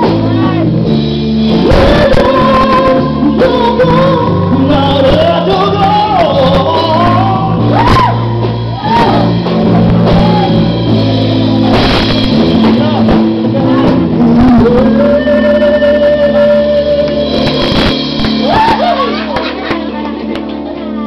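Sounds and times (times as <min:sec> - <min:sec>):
live band music with singing: 0:00.0 - 0:21.0.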